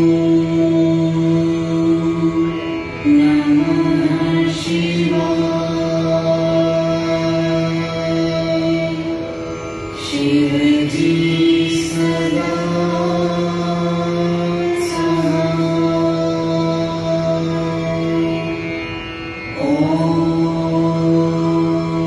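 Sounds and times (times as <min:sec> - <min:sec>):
mantra chant in held notes: 0:00.0 - 0:09.4, 0:10.0 - 0:18.6, 0:19.5 - 0:22.0.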